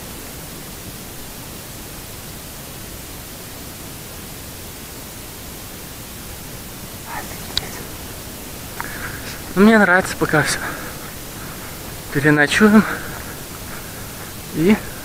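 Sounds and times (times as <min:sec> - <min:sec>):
power line hissing crackle: 0:00.0 - 0:15.0.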